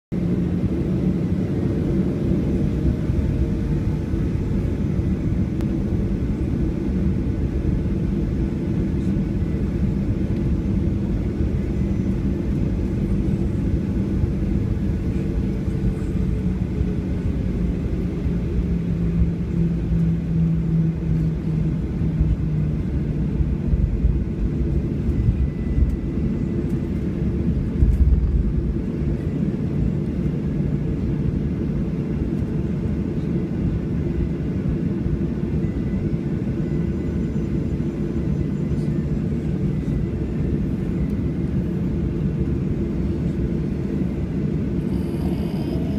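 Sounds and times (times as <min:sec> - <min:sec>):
jet engines rumbling in cabin: 0:00.1 - 0:45.9.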